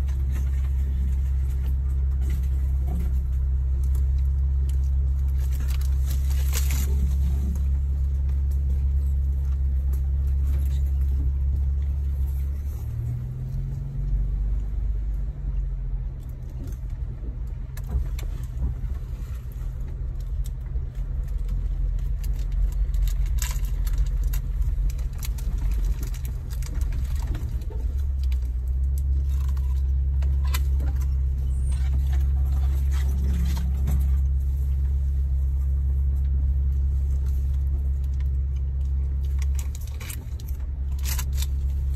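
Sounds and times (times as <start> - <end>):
car engine low drone: 0.0 - 41.9
light rattles and clicks: 0.0 - 41.9.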